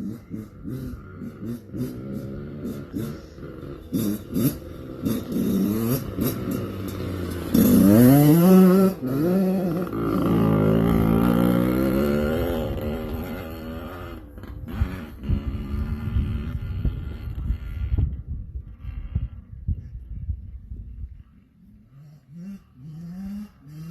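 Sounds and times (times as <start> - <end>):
motorcycle engine revving: 0.0 - 20.2, 21.1 - 23.9.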